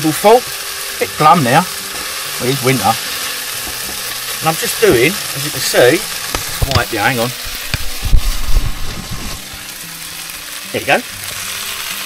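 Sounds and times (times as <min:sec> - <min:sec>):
mince sizzling in a pan: 0:00.0 - 0:12.0.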